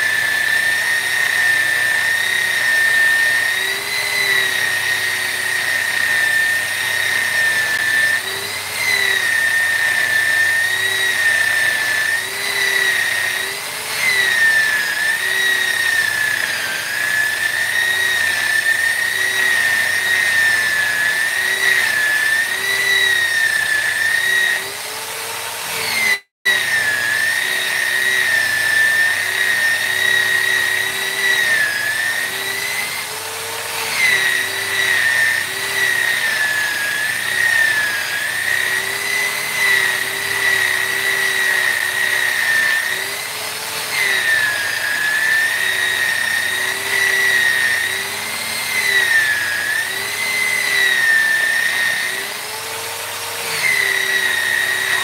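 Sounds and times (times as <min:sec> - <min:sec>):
rotary carving tool whining on wood: 0:00.0 - 0:55.0.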